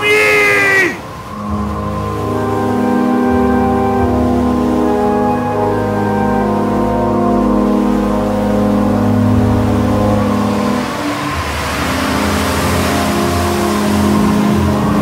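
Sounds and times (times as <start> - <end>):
sustained music chords: 1.0 - 15.0.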